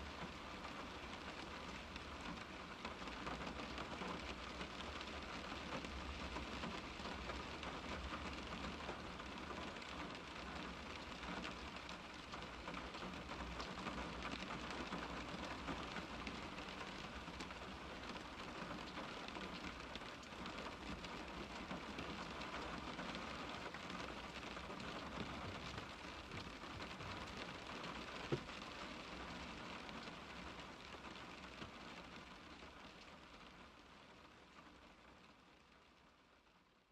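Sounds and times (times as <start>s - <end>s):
rain on car window: 0.0s - 36.9s.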